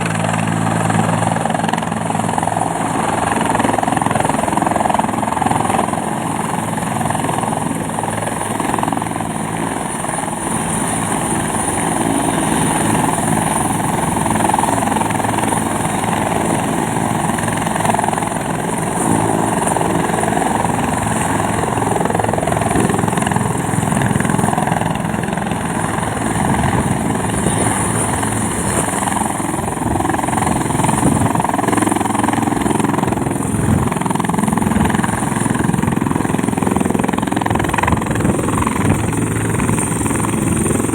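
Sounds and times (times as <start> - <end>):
helicopter engine whining: 0.0 - 40.9
helicopter rotor chopping: 0.0 - 40.9.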